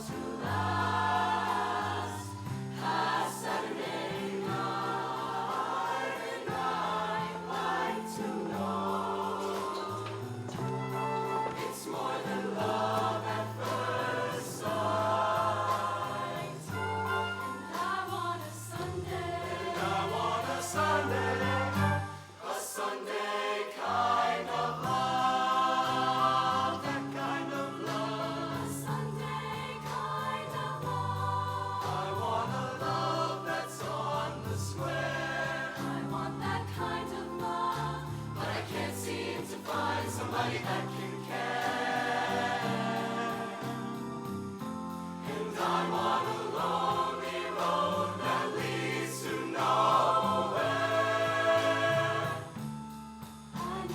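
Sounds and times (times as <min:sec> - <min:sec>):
choir singing in harmony: 0:00.0 - 0:53.9.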